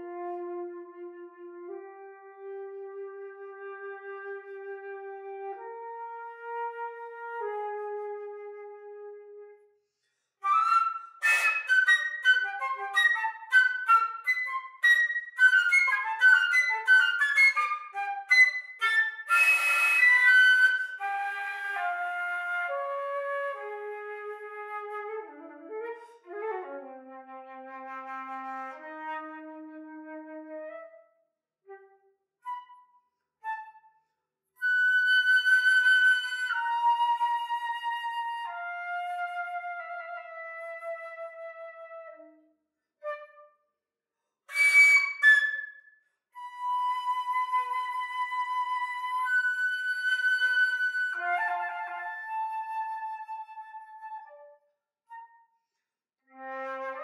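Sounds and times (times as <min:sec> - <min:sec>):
solo flute playing: 0:00.0 - 0:09.7, 0:10.4 - 0:31.1, 0:31.7 - 0:42.4, 0:43.0 - 0:43.6, 0:44.5 - 0:55.6, 0:56.3 - 0:57.0.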